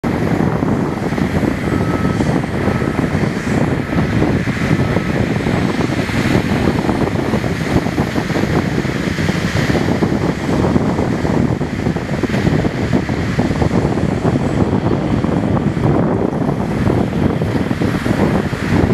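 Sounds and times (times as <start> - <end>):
diesel truck engine running: 0.0 - 18.9
wind noise on microphone: 0.0 - 18.9.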